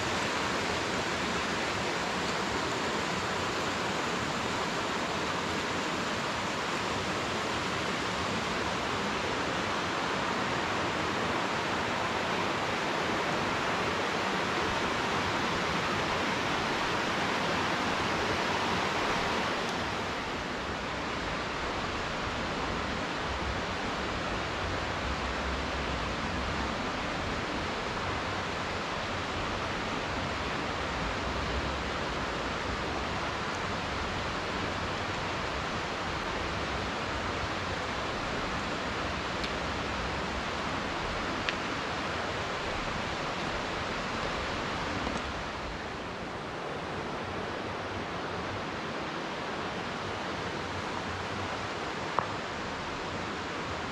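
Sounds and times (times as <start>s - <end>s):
steady rushing hiss: 0.0s - 53.9s.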